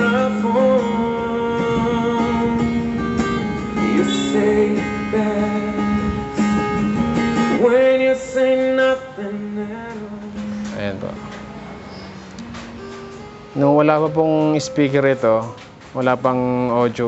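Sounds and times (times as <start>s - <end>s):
acoustic guitar love song with singing: 0.0s - 17.0s.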